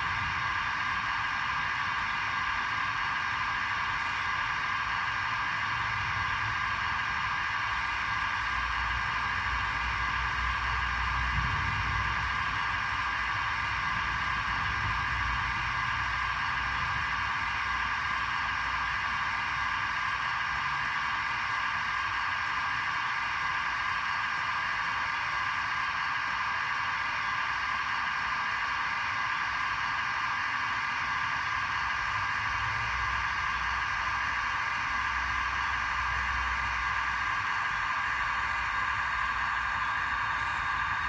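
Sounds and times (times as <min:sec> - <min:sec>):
small electric motor whirring: 0:00.0 - 0:41.0.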